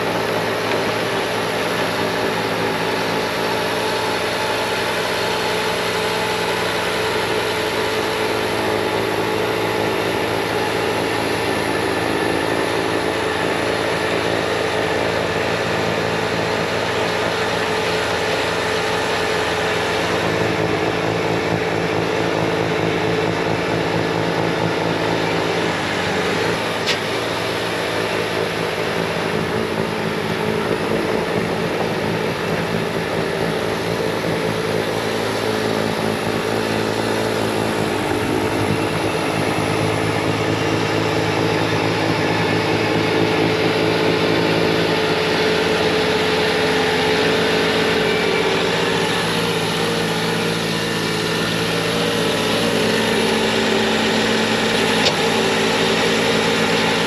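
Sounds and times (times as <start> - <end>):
diesel engine at full throttle: 0.0 - 57.0.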